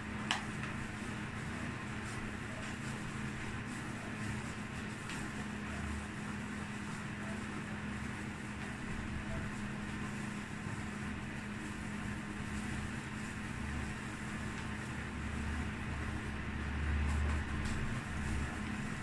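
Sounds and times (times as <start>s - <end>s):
steady hum with hiss: 0.0s - 19.0s.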